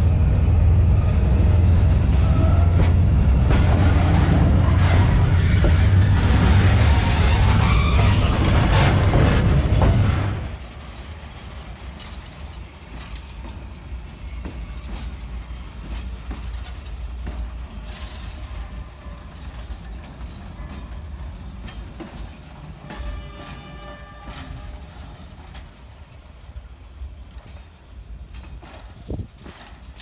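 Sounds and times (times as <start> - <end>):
freight train wheels rumbling: 0.0 - 30.0
wheels clicking over rail joints: 5.4 - 30.0.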